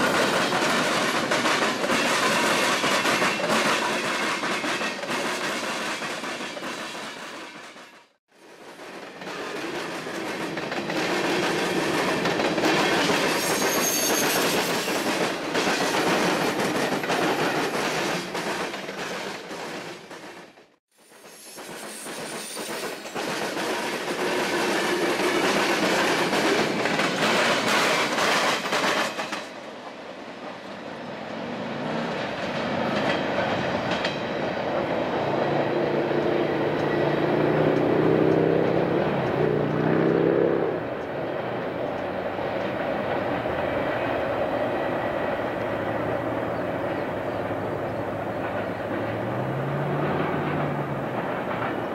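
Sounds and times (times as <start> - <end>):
train wheels clicking over rail joints: 0.0 - 30.8, 31.8 - 51.9.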